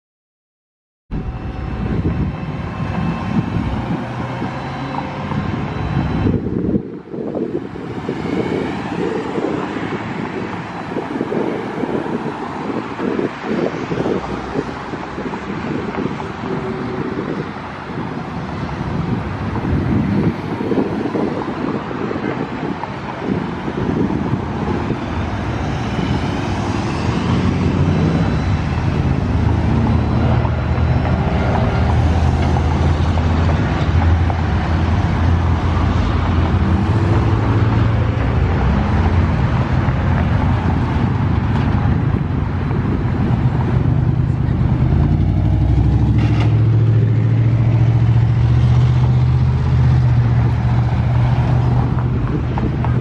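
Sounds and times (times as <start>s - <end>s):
truck engine and hydraulics humming: 1.1s - 53.0s.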